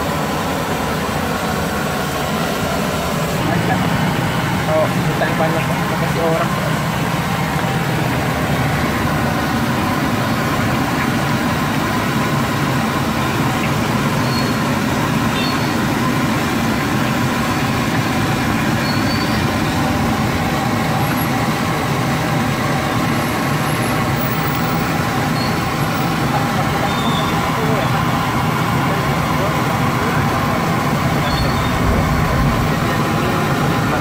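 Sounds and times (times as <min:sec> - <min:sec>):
gas burner roaring: 0:00.0 - 0:34.0.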